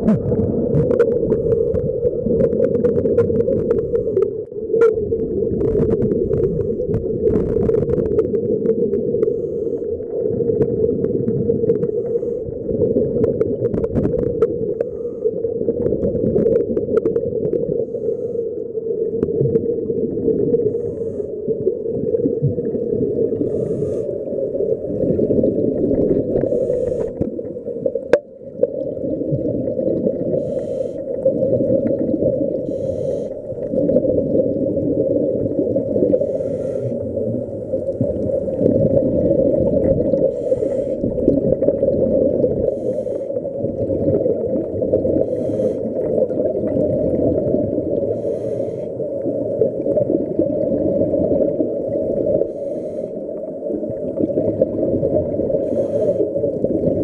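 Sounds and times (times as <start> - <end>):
muffled underwater rumble: 0.0 - 57.0
scuba regulator breathing bubbles: 0.0 - 57.0.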